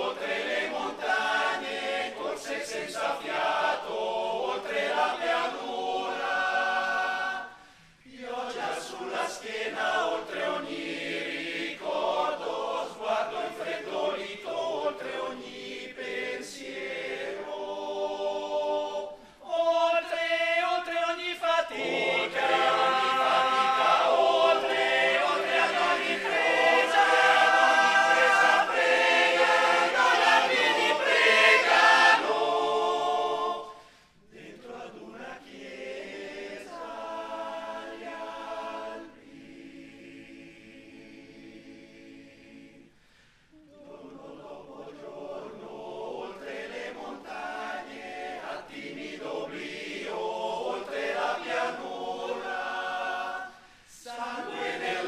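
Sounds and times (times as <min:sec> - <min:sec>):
male choir singing: 0:00.0 - 0:42.9, 0:43.6 - 0:55.0.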